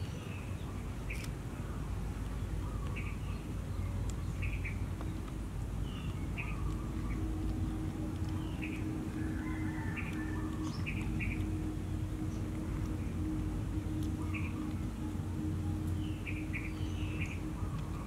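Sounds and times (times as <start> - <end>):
birds chirping: 0.0 - 18.0
faint steady hum: 0.0 - 18.0
steady low rumble: 0.0 - 18.0.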